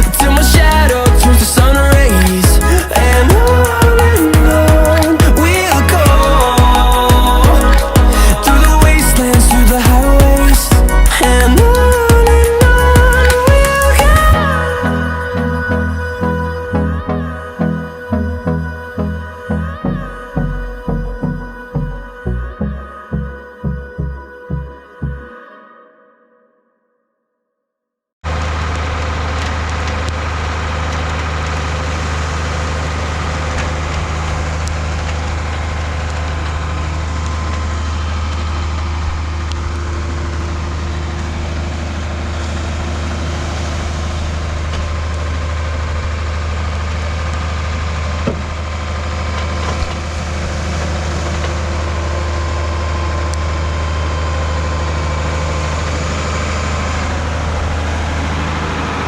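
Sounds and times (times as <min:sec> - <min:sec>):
boat engine idling: 0:00.0 - 0:25.2, 0:28.2 - 0:59.0.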